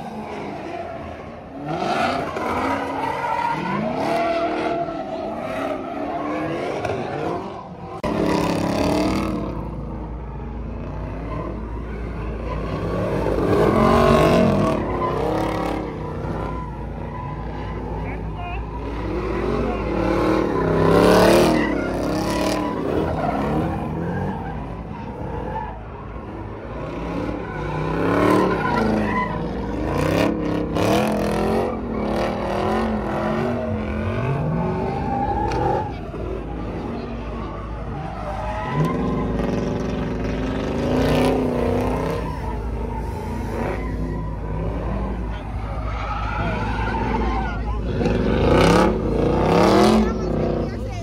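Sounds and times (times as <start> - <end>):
car engines revving: 0.0 - 51.0
tyre squeal and skidding: 0.0 - 51.0.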